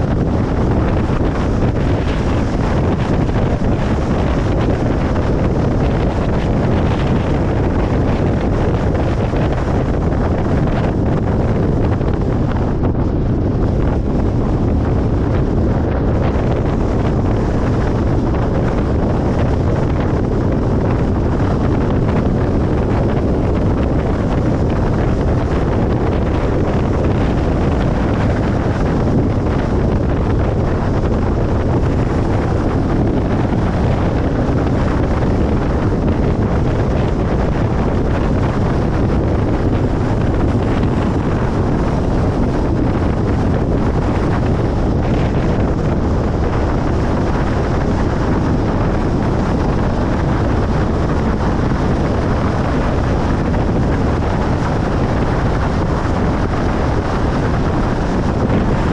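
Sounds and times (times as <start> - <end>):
rushing wind: 0.0 - 58.9
tyres rumbling on road: 0.0 - 58.9.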